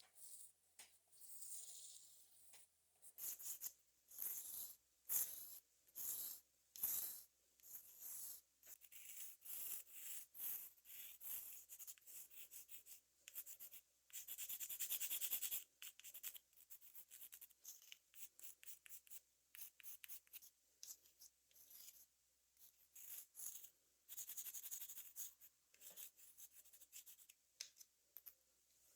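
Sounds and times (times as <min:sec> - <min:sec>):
chalk scratching on glass: 0:00.0 - 0:27.3.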